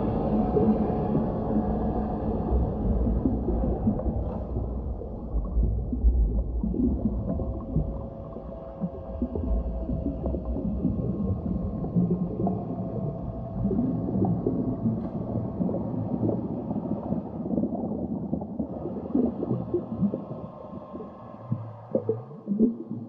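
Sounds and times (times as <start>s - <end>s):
muffled underwater water rumble: 0.0s - 23.0s
small underwater clicks and knocks: 2.4s - 23.0s.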